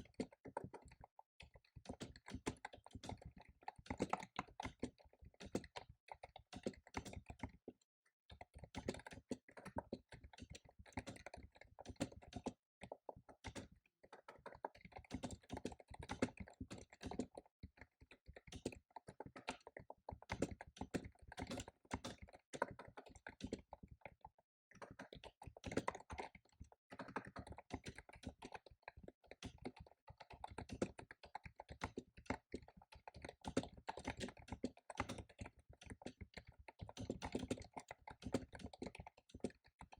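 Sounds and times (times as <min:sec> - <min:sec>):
fast typing on keyboard: 0:00.0 - 0:07.7, 0:08.3 - 0:39.9.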